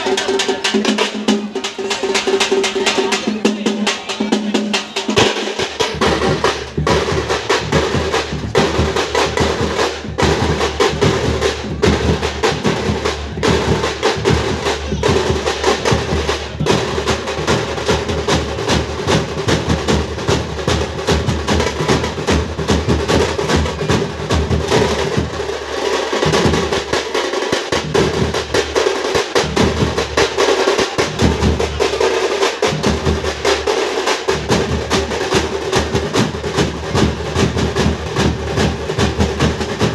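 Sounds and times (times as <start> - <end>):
fast drumming rhythm: 0.0 - 39.9.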